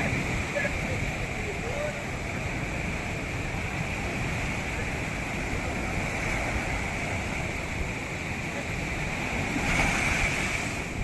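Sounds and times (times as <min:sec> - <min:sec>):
ocean surf washing onto beach: 0:00.0 - 0:11.0
wave breaking: 0:00.0 - 0:11.0.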